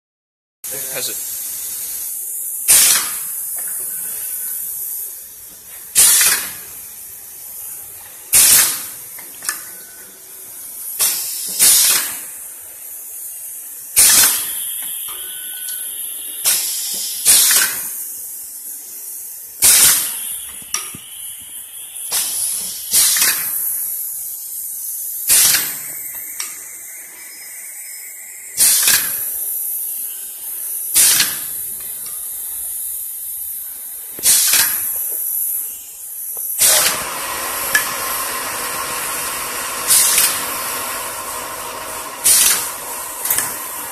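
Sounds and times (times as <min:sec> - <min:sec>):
steady high hiss: 0:00.7 - 0:36.8
sharp pneumatic hiss: 0:00.8 - 0:43.9.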